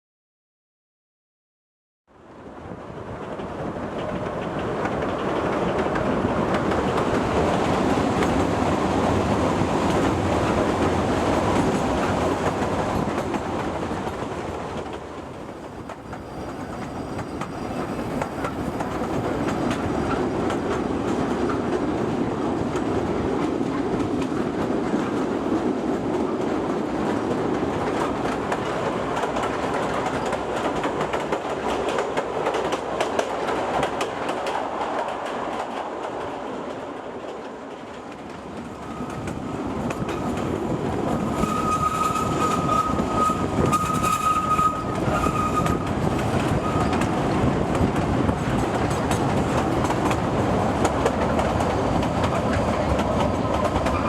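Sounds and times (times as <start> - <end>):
train rumble: 2.5 - 54.0.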